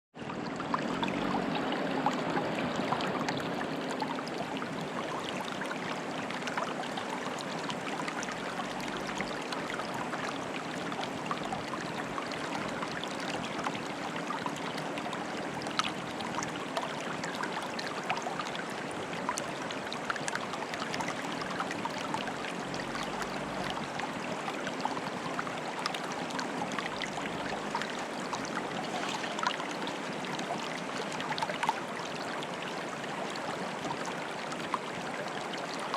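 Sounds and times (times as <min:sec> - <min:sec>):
small water splashes: 0:00.2 - 0:35.9
stream bubbling and trickling: 0:00.2 - 0:35.9.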